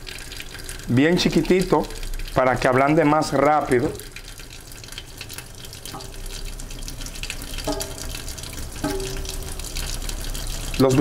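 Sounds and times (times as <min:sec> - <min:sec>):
tap water splashing into sink: 0:00.0 - 0:11.0.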